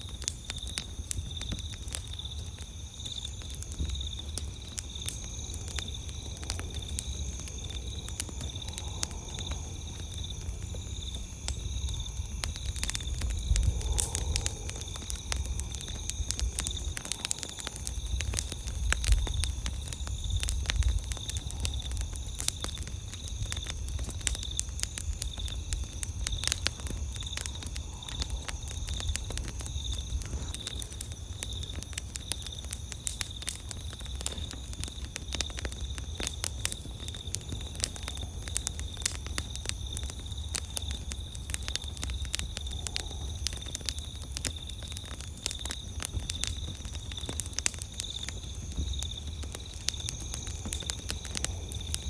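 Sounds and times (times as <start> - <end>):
campfire crackling and popping: 0.0 - 52.0
night insects trilling: 0.0 - 52.0.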